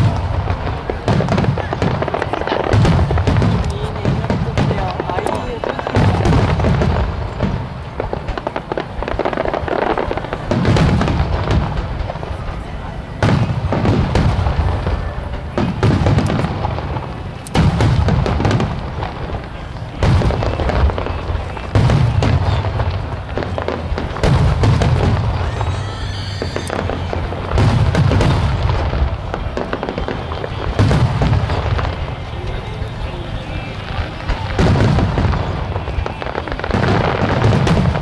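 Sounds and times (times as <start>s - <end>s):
firework crackling and rumble: 0.0s - 38.0s
firework shells booming: 0.0s - 38.0s.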